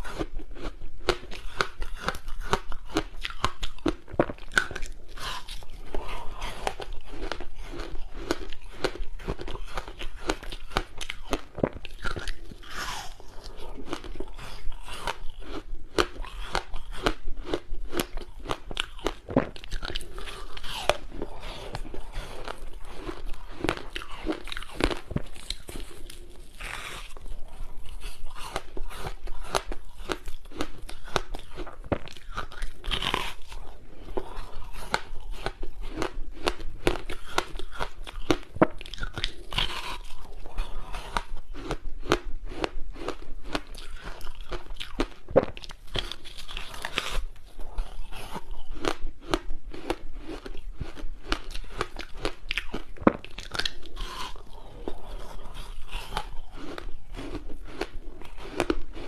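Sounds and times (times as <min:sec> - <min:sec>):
crunching frozen ice: 0:00.1 - 0:59.0.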